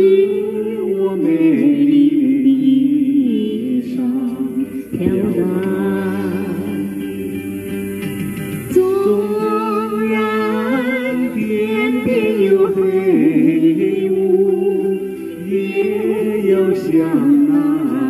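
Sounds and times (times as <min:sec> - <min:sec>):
man and woman singing duet: 0:00.0 - 0:07.9, 0:08.7 - 0:18.0.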